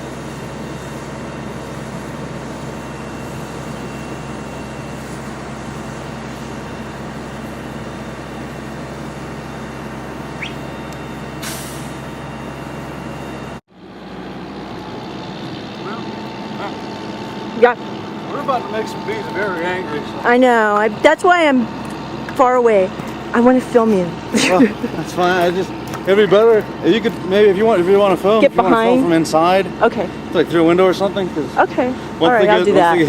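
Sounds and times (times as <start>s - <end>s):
fire truck engine running: 0.0s - 33.0s.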